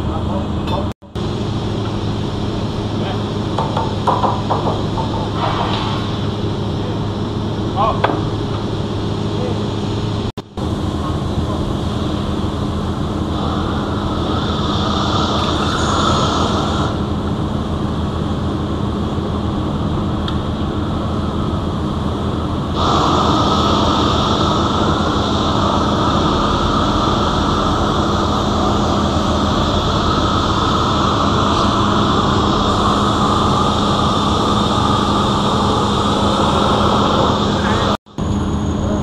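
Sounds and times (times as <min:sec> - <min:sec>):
welding shop equipment roar: 0:00.0 - 0:39.0.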